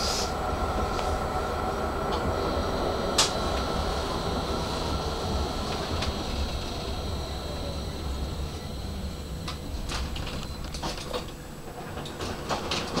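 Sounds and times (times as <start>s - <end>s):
faint high whine: 0.0s - 11.5s
tram rumbling on track: 0.0s - 13.0s.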